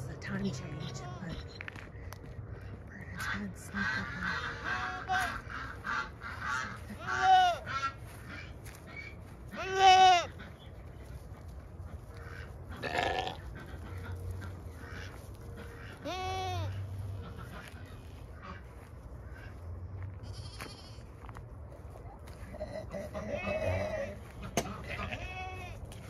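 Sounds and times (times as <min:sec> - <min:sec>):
peafowl honking calls: 0:01.9 - 0:10.8, 0:11.8 - 0:21.1, 0:22.4 - 0:25.9.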